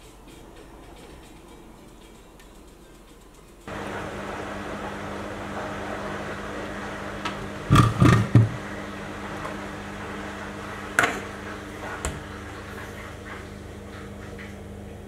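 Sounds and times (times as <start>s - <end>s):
low electrical hum: 0.4s - 15.0s.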